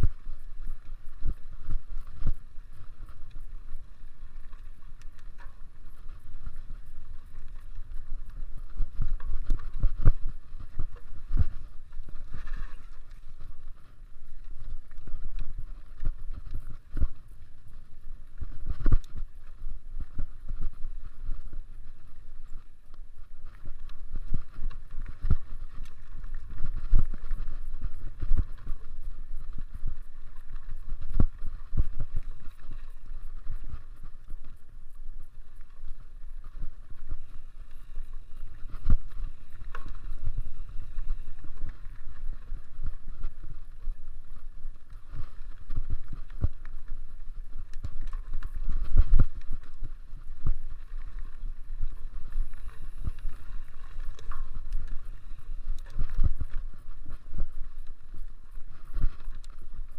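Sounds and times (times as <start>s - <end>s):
bike tyres rumbling on trail: 0.0s - 59.9s.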